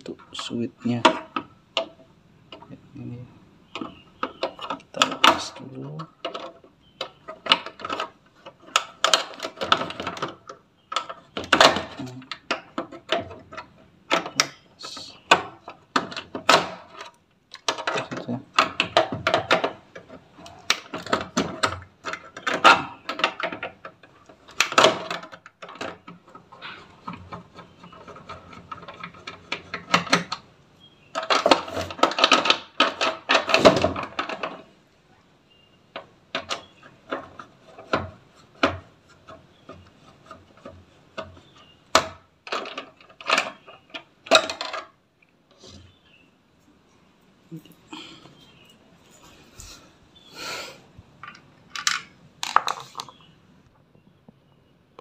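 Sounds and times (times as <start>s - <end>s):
hand tools on plastic housing: 0.0s - 3.0s, 3.6s - 46.3s, 51.0s - 54.3s.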